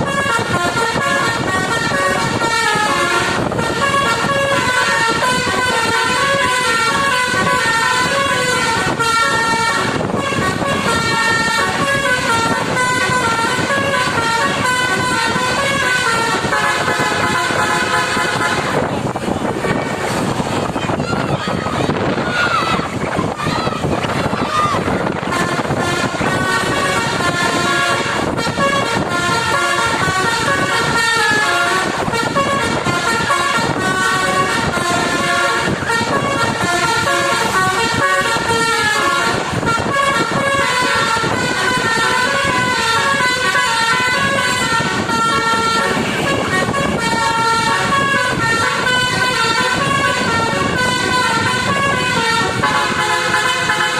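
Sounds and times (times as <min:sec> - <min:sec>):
musical air horns playing a tune: 0:00.0 - 0:20.9, 0:21.9 - 0:53.9.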